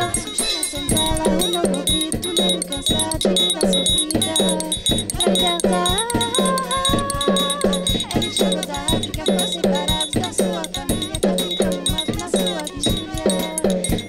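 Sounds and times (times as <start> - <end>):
capoeira song with percussive beat: 0.0 - 14.0.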